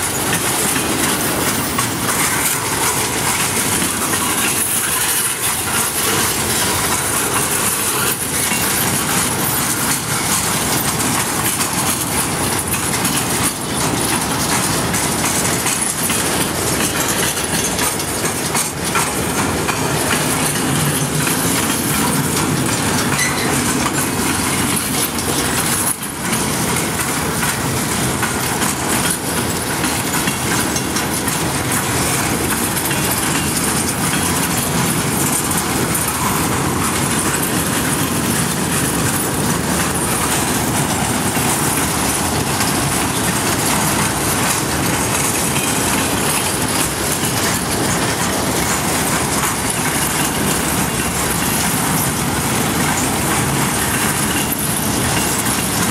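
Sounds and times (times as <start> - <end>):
freight train wheels rolling: 0.0 - 55.9.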